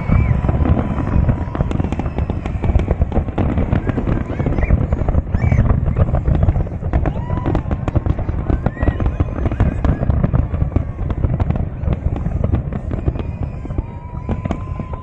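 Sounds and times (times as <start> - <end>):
fireworks booms and bangs: 0.0 - 15.0
fireworks whistles: 0.0 - 15.0.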